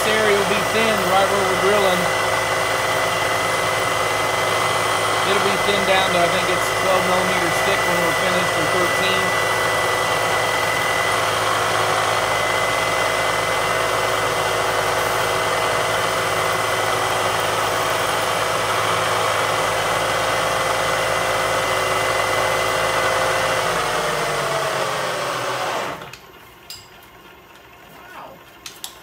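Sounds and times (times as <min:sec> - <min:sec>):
milling spindle motor whine: 0:00.0 - 0:26.2.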